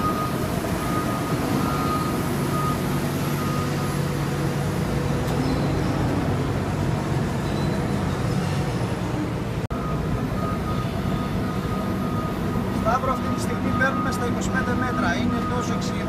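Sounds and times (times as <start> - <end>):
excavator engine and hydraulics: 0.0 - 16.0.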